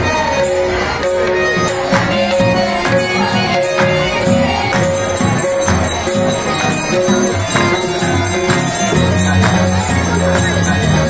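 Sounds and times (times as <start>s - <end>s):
jingling bell-like percussion: 0.0s - 11.0s
music with steady beat: 0.0s - 11.0s.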